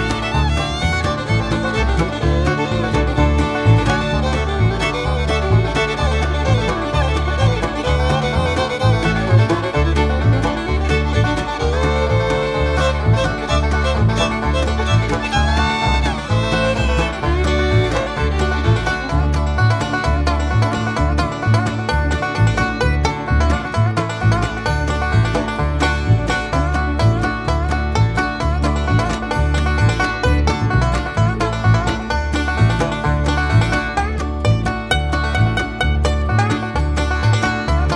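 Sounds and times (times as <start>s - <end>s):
bluegrass music with banjo and fiddle: 0.0s - 37.9s.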